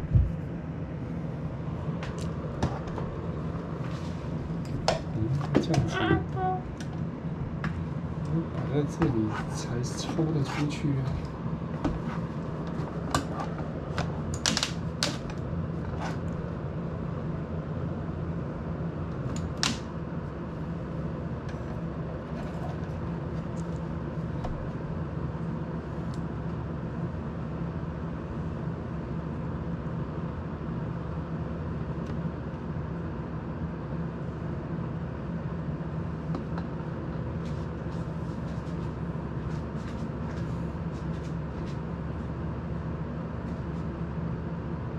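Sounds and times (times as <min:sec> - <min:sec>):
desk fan whirring: 0:00.0 - 0:44.9.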